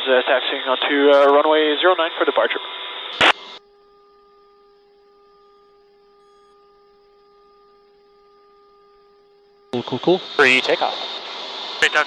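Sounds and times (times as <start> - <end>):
electrical hum: 0.9 - 12.0.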